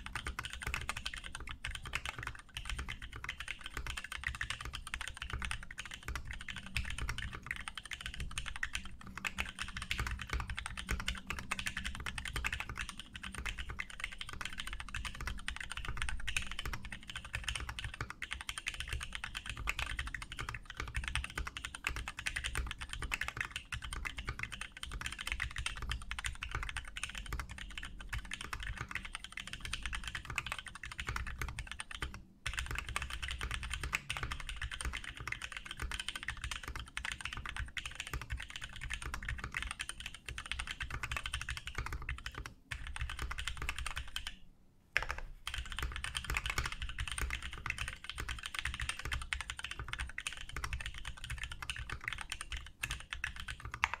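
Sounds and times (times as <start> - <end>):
mechanical keyboard typing: 0.0 - 44.4, 45.0 - 54.0.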